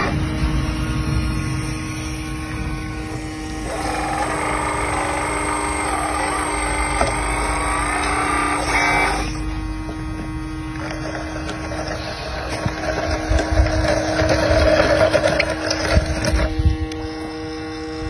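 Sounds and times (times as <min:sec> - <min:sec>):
model motors whining: 0:00.0 - 0:18.0
steady hum: 0:00.0 - 0:18.0.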